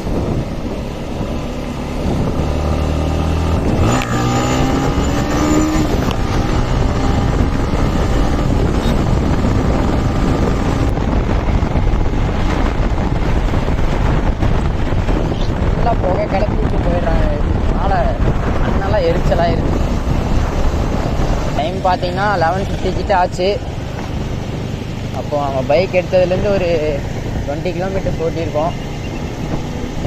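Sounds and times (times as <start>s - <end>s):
motorbike engine: 0.0s - 30.0s
wind buffeting microphone: 0.0s - 30.0s.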